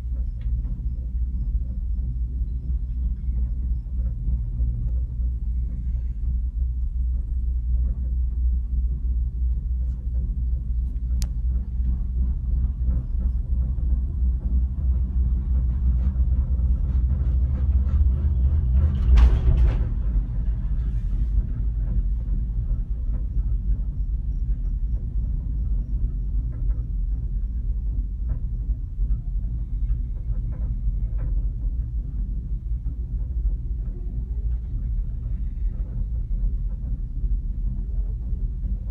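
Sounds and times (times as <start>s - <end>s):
gondola cabin rumbling on cable: 0.0s - 38.9s.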